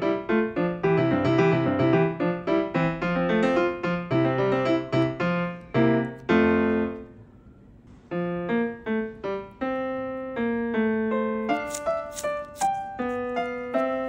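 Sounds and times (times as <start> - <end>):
piano-like keyboard melody: 0.0 - 7.4, 8.1 - 14.0.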